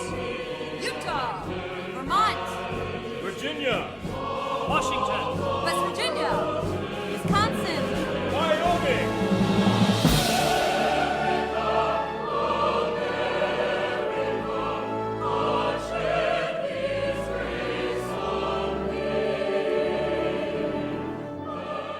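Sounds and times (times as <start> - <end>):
choir singing: 0.0 - 21.9
orchestral accompaniment: 0.0 - 21.9.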